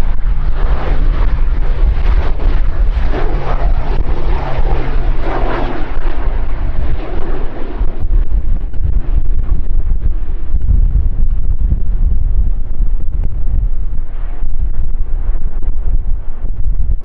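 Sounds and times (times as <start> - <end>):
turboprop plane droning past: 0.0 - 17.0
wind rumble on microphone: 0.0 - 17.0.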